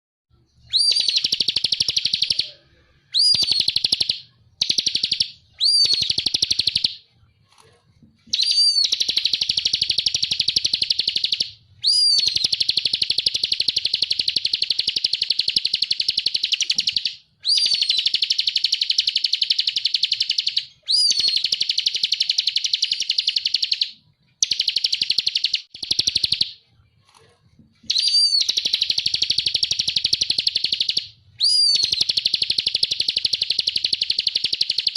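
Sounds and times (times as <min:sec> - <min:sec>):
bird singing buzzy trill: 0:00.4 - 0:07.0, 0:08.3 - 0:26.6, 0:27.9 - 0:34.9.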